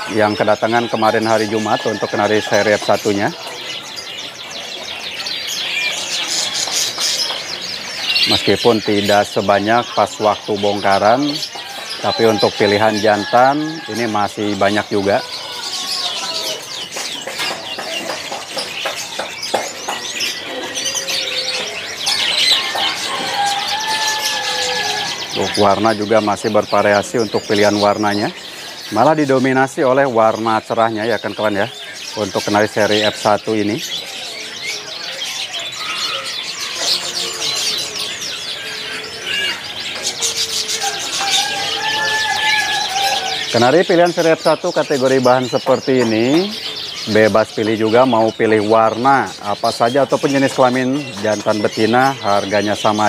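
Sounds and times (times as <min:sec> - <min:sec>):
canaries chirping and twittering: 0:00.0 - 0:53.0.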